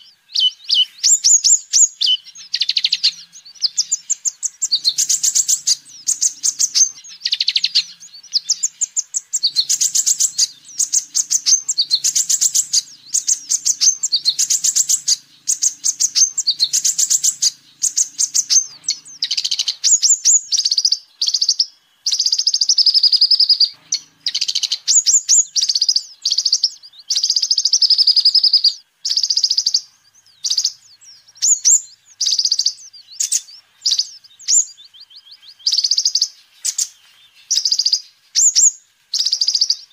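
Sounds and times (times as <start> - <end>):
sunbird trilling song: 0.0 - 39.9.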